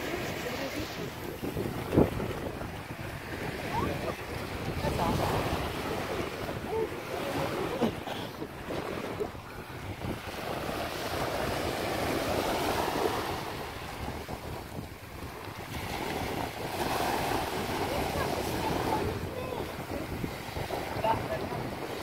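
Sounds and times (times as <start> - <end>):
water lapping over sand: 0.0 - 22.0
wind buffeting microphone: 0.0 - 22.0.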